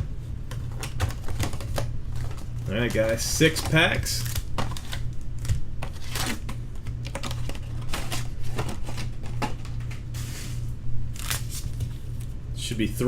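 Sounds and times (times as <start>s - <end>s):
low electrical hum: 0.0s - 13.0s
card packs crinkling open: 0.6s - 10.0s, 11.1s - 12.4s.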